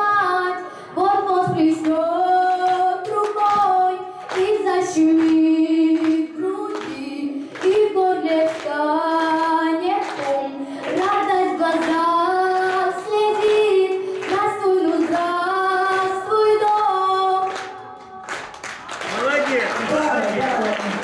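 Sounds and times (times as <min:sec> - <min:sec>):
girl singing into microphone: 0:00.0 - 0:18.2.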